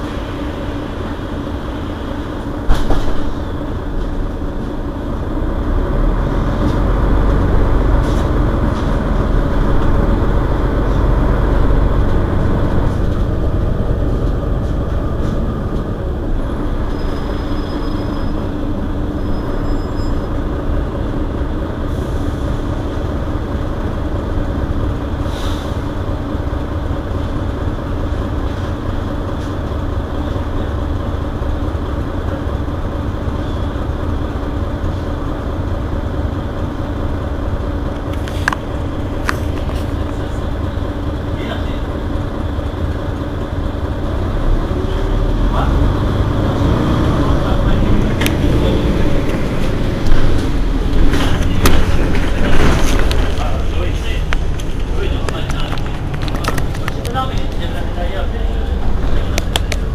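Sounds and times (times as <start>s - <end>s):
bus engine idling: 0.0s - 59.9s.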